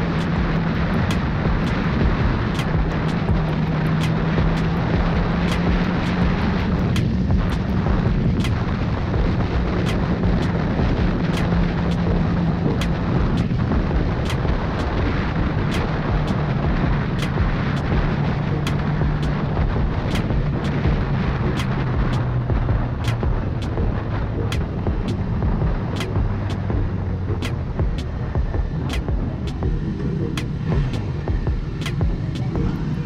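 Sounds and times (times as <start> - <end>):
motorcycle engine cruising: 0.0 - 33.0
wind buffeting on microphone: 0.0 - 33.0.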